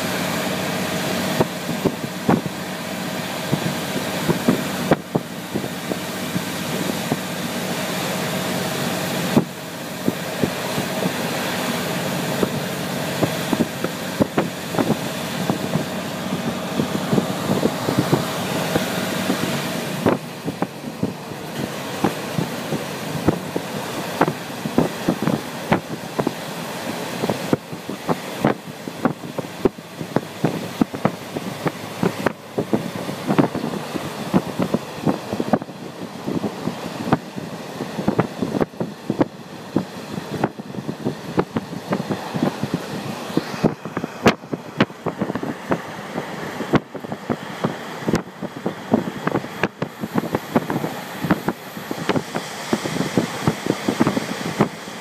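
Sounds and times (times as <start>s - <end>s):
diesel railcar engine running: 0.0s - 55.0s
whine: 0.0s - 55.0s.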